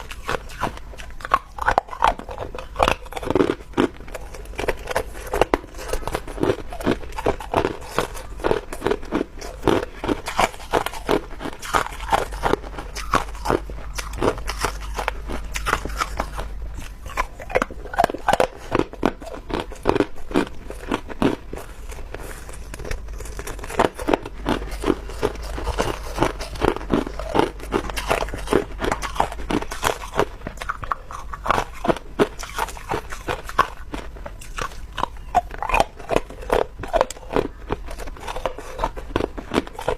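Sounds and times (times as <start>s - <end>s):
ice crunching while chewing: 0.0s - 39.9s
steady low hum: 0.0s - 39.9s.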